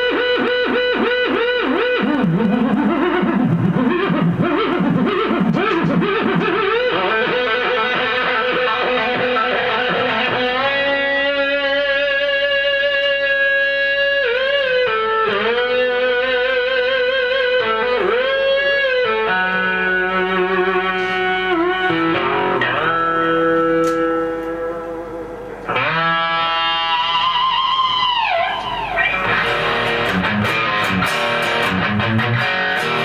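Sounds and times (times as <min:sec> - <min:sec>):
sustained electric guitar notes: 0:00.0 - 0:33.0.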